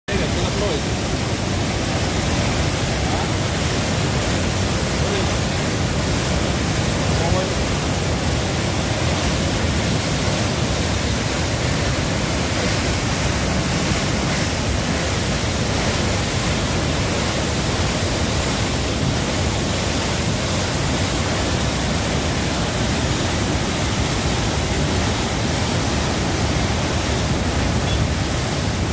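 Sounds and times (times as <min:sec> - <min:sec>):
water pouring from spillway: 0:00.1 - 0:28.9.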